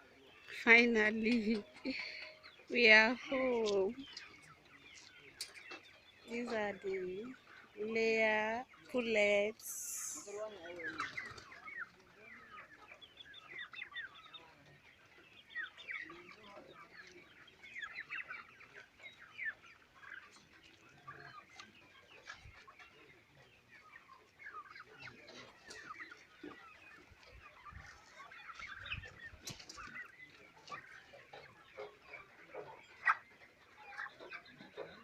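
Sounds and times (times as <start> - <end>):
chickens calling: 0.0 - 35.0.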